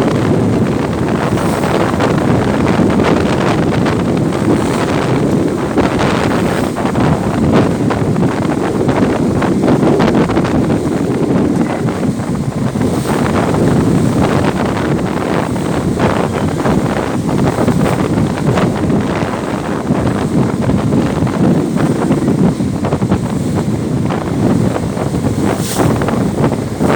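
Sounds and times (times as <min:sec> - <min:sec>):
strong wind buffeting microphone: 0:00.0 - 0:26.9.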